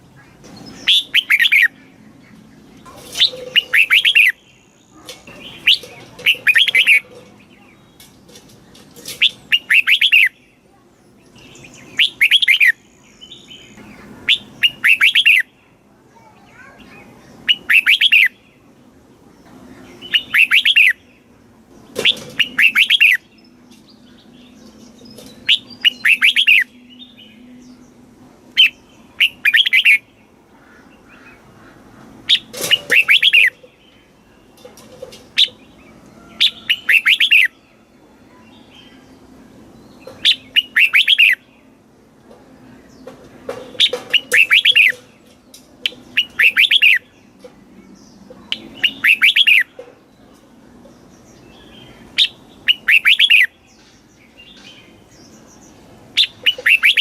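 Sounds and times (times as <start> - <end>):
bulbul singing warbling phrases: 0.0 - 8.2, 9.0 - 21.3, 22.1 - 31.5, 32.3 - 35.8, 36.4 - 41.8, 43.5 - 57.0.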